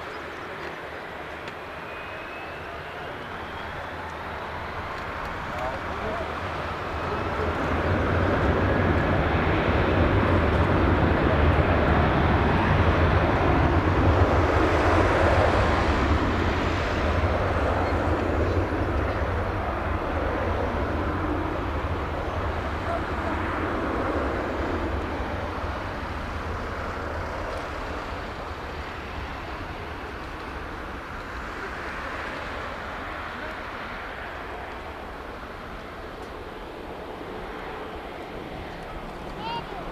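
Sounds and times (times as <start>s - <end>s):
jet aircraft roar passing: 0.0s - 39.9s.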